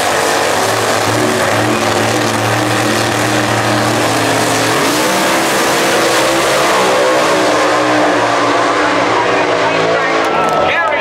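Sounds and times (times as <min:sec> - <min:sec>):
drag car engine revving: 0:00.0 - 0:11.0.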